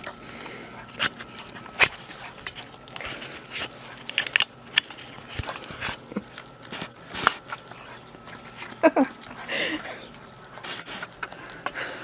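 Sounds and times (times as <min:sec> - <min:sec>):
dog chewing and smacking: 0:00.0 - 0:12.0.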